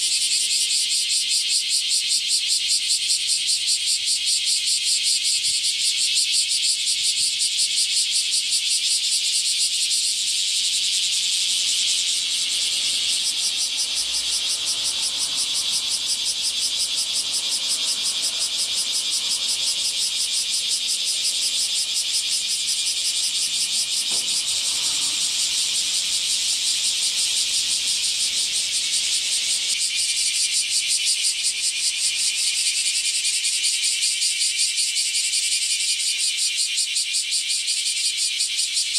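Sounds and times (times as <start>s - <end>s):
cicadas buzzing in chorus: 0.0s - 38.9s.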